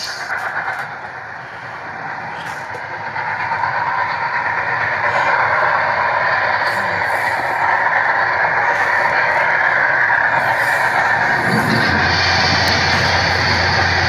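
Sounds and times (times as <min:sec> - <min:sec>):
steam locomotive rushing and hissing: 0:00.0 - 0:14.0.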